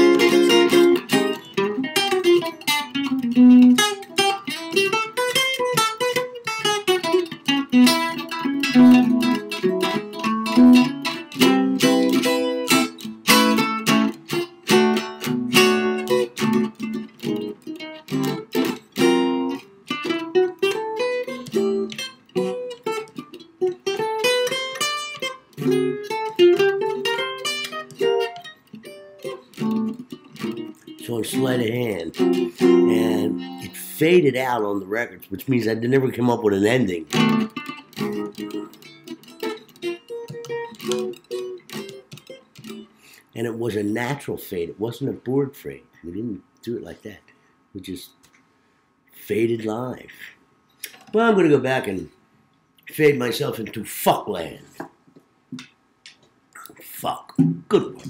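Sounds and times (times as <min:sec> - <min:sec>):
solo jazz guitar: 0:00.0 - 0:47.1, 0:56.6 - 0:58.0.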